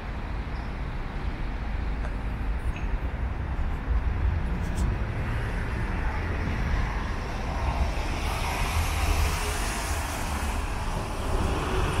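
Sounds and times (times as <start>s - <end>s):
passing vehicles rumble and hiss: 0.0s - 12.0s.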